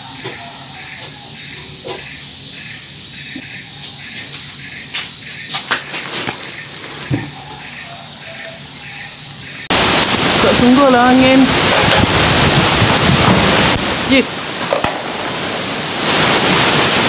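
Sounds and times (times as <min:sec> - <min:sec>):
insects droning: 0:00.0 - 0:17.0
pulsing insect call: 0:00.0 - 0:17.0.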